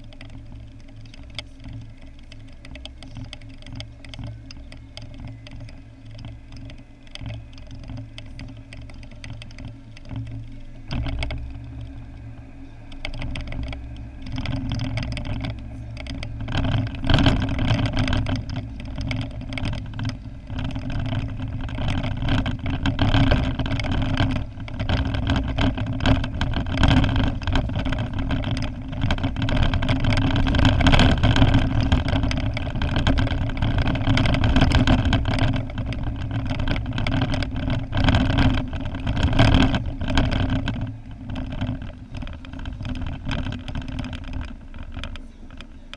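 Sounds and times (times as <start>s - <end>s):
car engine and tyre noise: 0.0s - 45.9s
small clicks and knocks: 0.0s - 45.9s.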